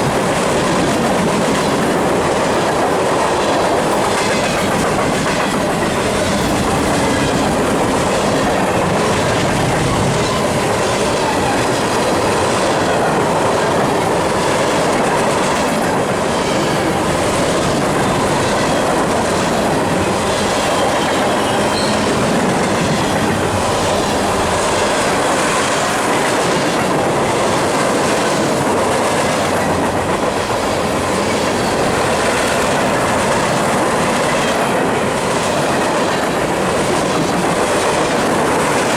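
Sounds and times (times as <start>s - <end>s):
train wheels clickety-clack: 0.0s - 38.9s.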